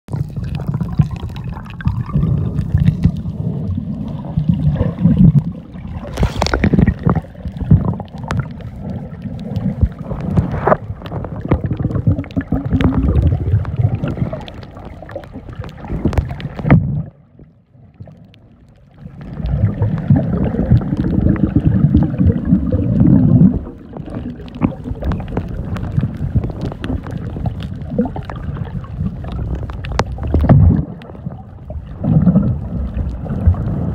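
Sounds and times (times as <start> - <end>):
water sloshing against microphone: 0.1 - 33.9.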